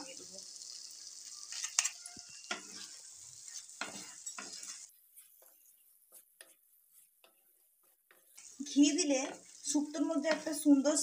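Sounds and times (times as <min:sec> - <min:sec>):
curry sizzling: 0:00.0 - 0:11.0
spatula scraping pan: 0:01.4 - 0:11.0.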